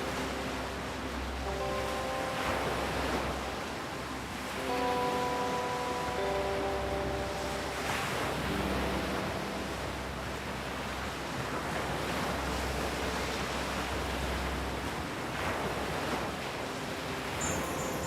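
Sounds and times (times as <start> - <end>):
low steady drone: 0.0 - 18.0
surf washing: 0.0 - 18.0.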